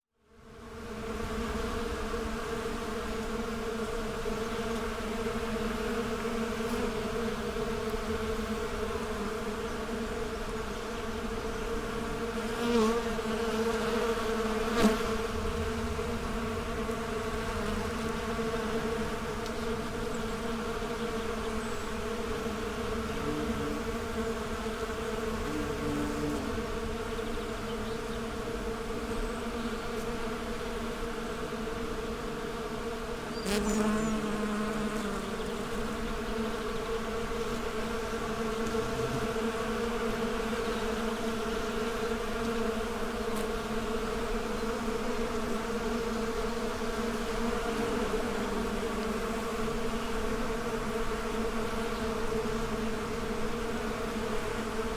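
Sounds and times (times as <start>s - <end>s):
bees buzzing: 0.5s - 54.9s.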